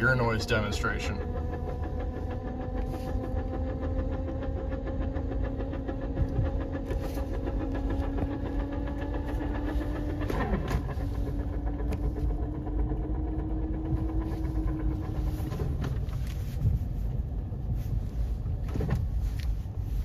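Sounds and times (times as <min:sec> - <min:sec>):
transmission gear whine: 0:00.0 - 0:20.0
truck engine rumble: 0:00.0 - 0:20.0.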